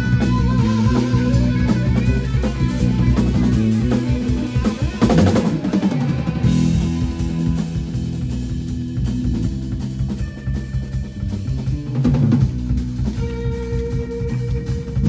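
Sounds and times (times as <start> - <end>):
bass guitar: 0.0 - 15.0
drum fill: 0.0 - 15.0
electric guitar melody: 0.0 - 15.0.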